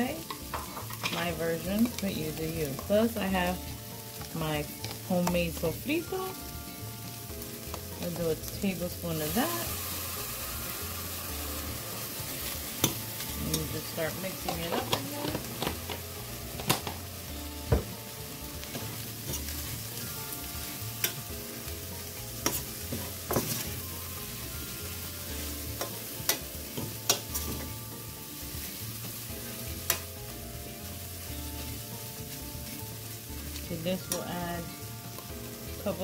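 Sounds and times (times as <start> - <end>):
meat sizzling in a frying pan: 0.0 - 36.0.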